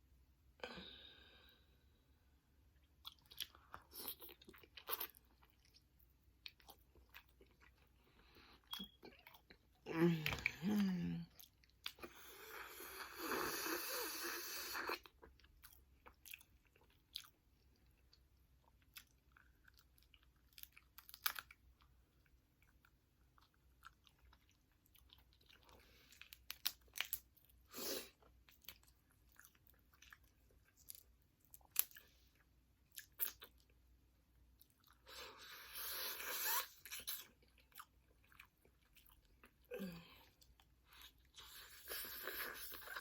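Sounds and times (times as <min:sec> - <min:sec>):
person chewing and smacking: 0:02.8 - 0:13.1, 0:14.2 - 0:43.0.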